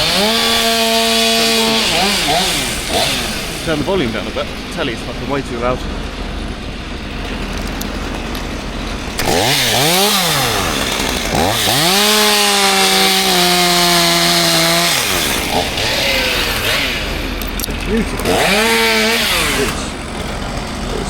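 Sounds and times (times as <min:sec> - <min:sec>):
chainsaw engine revving: 0:00.0 - 0:21.0.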